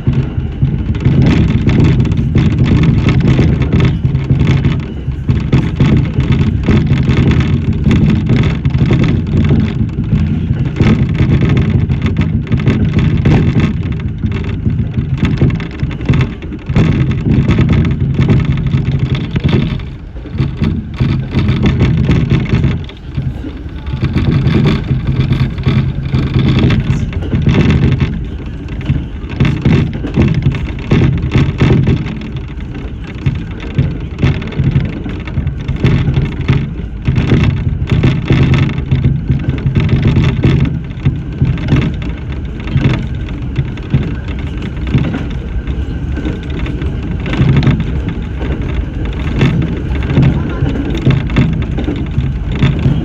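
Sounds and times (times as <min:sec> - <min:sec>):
train running gear rumble: 0:00.0 - 0:53.0.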